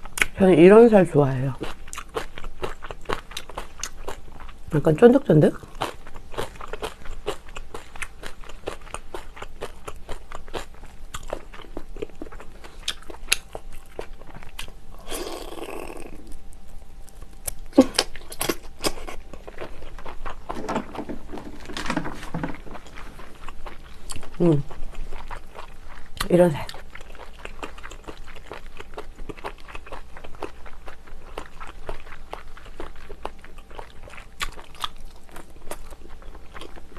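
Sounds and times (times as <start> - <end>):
wet chewing mouth sounds: 1.6 - 4.6, 5.6 - 20.7, 22.7 - 36.9.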